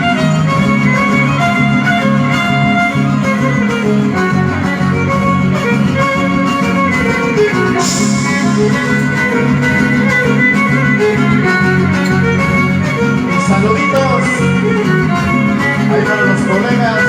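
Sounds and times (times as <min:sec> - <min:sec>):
plucked guitar: 0:00.0 - 0:17.0
violin playing melody: 0:00.0 - 0:17.0.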